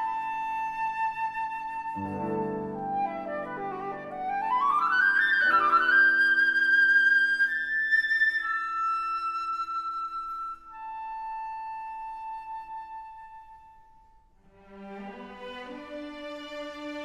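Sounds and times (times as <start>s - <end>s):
solo flute long notes: 0.0s - 14.0s.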